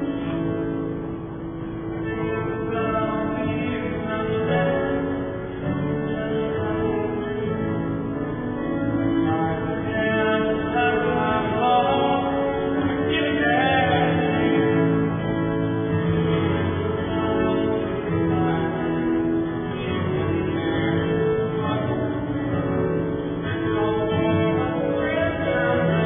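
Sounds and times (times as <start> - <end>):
slow music with held notes: 0.0 - 26.0.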